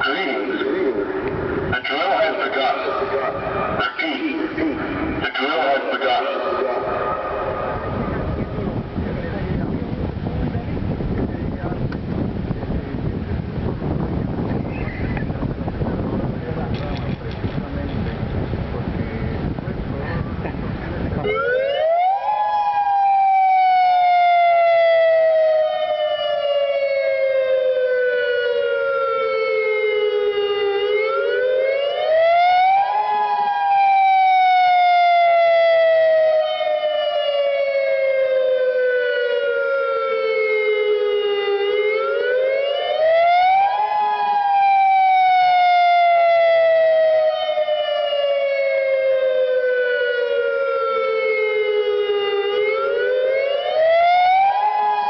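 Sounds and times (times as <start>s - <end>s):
emergency siren wailing: 0.0s - 11.0s, 21.0s - 55.0s.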